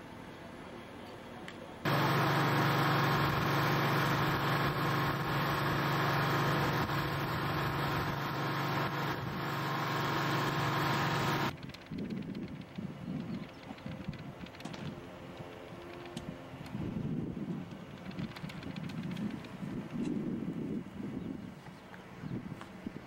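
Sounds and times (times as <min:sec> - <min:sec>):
engine humming steadily: 0:01.7 - 0:23.0.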